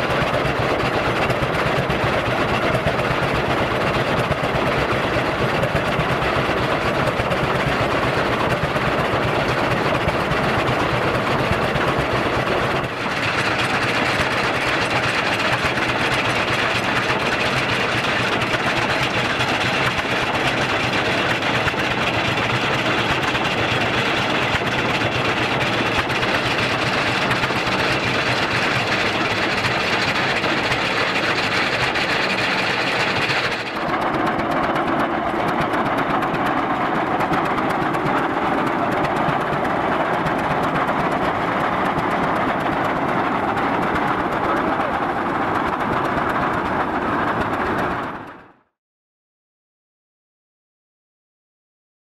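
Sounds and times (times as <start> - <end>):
tractor engine clattering: 0.1 - 48.0.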